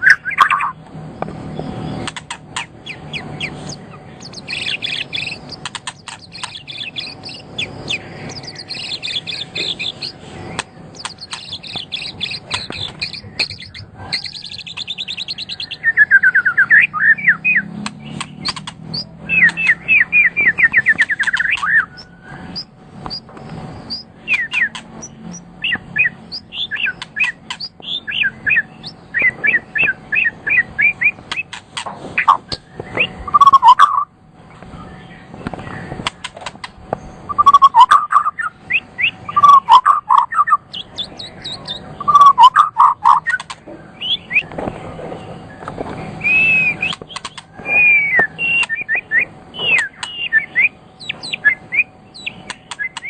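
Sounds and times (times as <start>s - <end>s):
faint steady hum: 0.0s - 53.0s
songbird singing chirps and trills: 0.0s - 53.0s.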